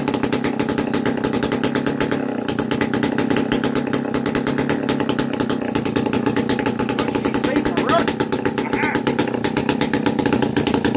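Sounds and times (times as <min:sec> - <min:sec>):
two-stroke engine idling: 0:00.0 - 0:10.9.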